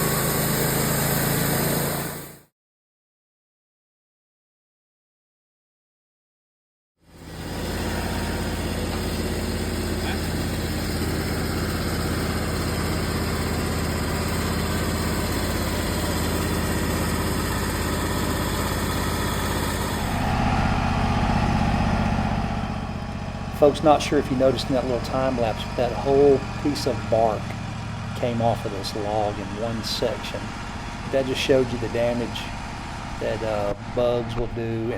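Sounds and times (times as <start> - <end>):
sawmill engine running: 0.0 - 2.4, 7.1 - 34.9.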